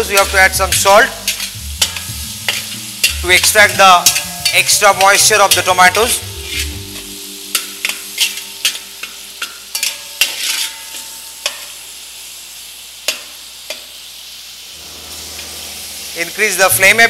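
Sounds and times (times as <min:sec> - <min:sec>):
metal spatula scraping a pan: 0:00.0 - 0:11.9, 0:14.8 - 0:16.6
prawns sizzling in a pan: 0:00.0 - 0:17.0.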